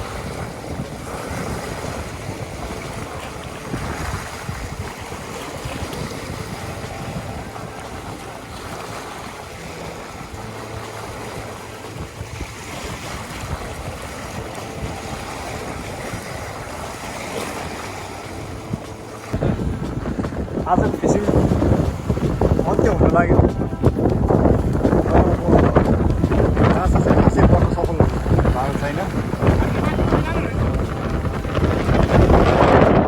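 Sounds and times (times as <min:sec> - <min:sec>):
sea waves washing: 0:00.0 - 0:33.0
wind on microphone: 0:00.0 - 0:33.0.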